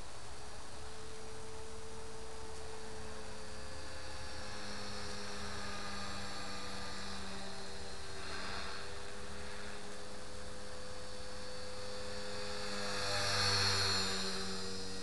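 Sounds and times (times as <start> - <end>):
high whine: 0.0 - 15.0
rc helicopter hum: 0.0 - 15.0.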